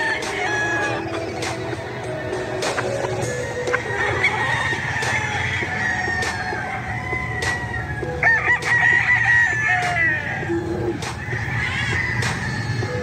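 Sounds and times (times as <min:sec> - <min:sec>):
rooster crowing: 0:00.0 - 0:01.2, 0:02.2 - 0:13.0.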